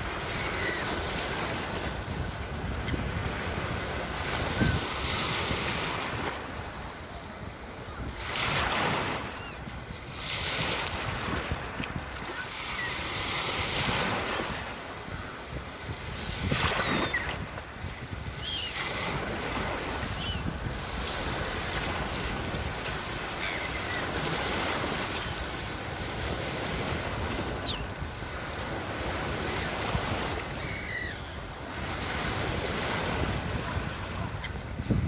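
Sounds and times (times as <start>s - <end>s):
sea waves washing ashore: 0.0s - 35.0s.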